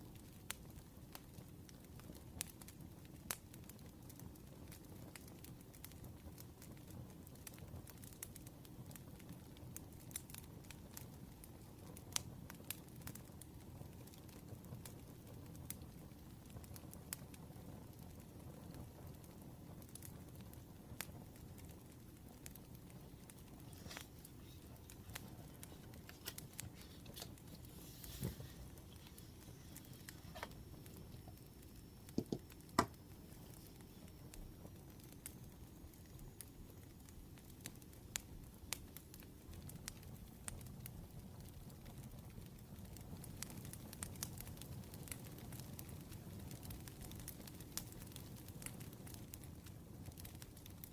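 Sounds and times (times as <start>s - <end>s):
low steady hiss: 0.0s - 50.9s
wood fire crackling: 0.0s - 50.9s.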